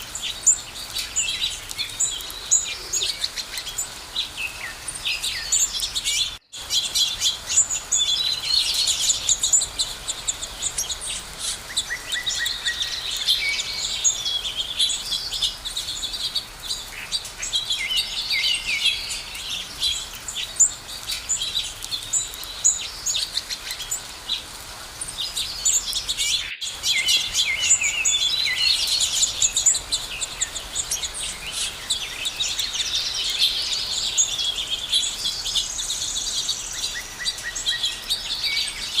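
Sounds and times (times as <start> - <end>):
small birds chirping and trilling: 0.0 - 39.0.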